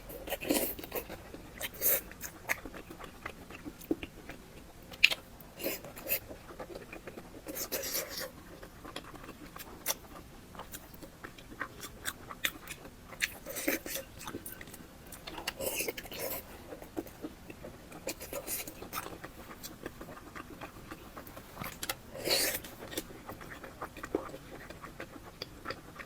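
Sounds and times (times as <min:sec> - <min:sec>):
close chewing and biting: 0:00.0 - 0:26.0.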